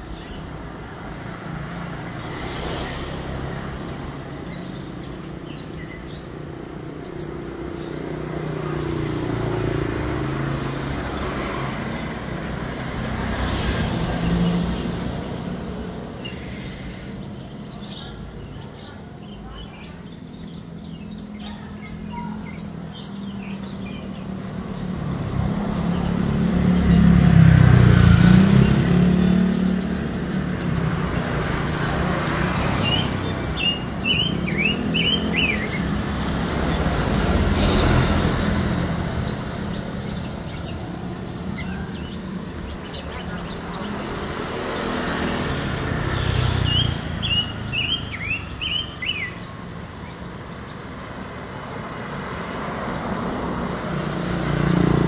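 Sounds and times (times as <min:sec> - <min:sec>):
vehicle passing by: 0:00.0 - 0:18.0, 0:19.2 - 0:55.0
road traffic: 0:00.0 - 0:55.0
songbirds chirping: 0:00.0 - 0:55.0.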